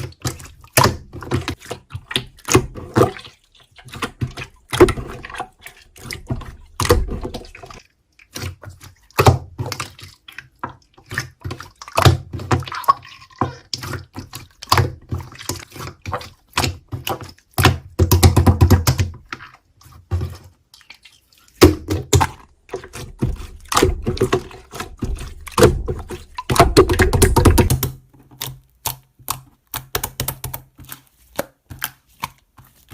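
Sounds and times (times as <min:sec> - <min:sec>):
slime squishing by hand: 0:00.0 - 0:32.9.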